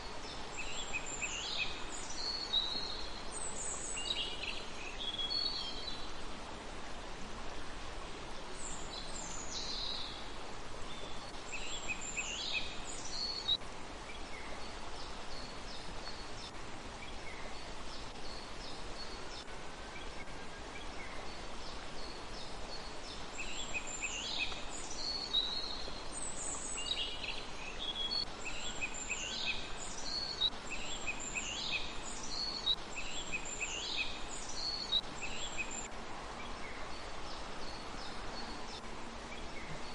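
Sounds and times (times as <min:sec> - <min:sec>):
small birds chirping: 0:00.0 - 0:06.2, 0:08.4 - 0:39.9
outdoor background hiss: 0:00.0 - 0:39.9.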